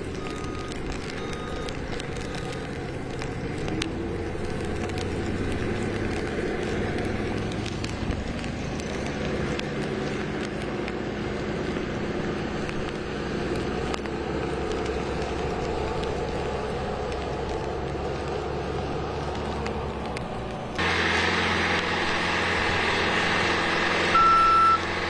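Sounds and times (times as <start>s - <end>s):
noisy rumble: 0.0s - 25.0s
vehicle engine humming: 0.0s - 25.0s.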